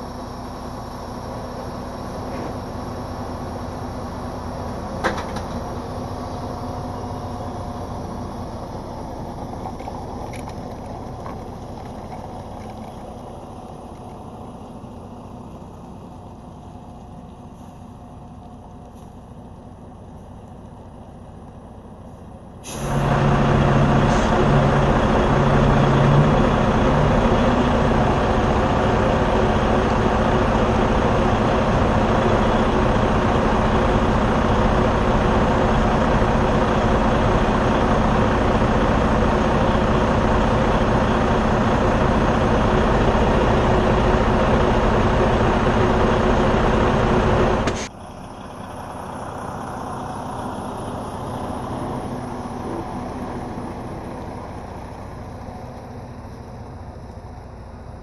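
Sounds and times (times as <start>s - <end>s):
diesel truck engine running: 0.0s - 58.0s
distant truck pulling away: 0.0s - 58.0s.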